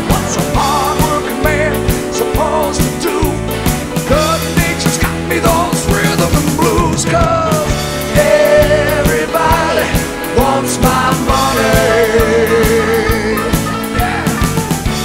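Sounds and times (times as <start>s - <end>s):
rock song with singing: 0.0s - 15.0s
steady drum beat: 0.0s - 15.0s.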